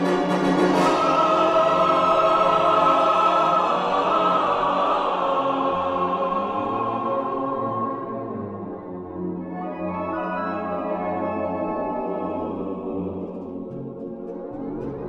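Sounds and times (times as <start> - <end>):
orchestral music with choir: 0.0 - 15.0.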